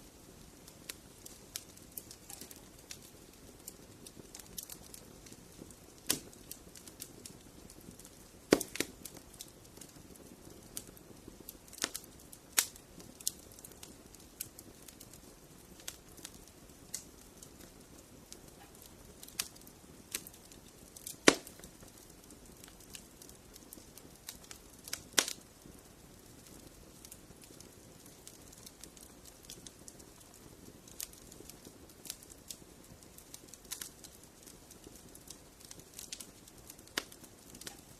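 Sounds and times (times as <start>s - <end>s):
fire crackling and popping: 0.0s - 37.9s
wood fire hissing: 0.0s - 37.9s.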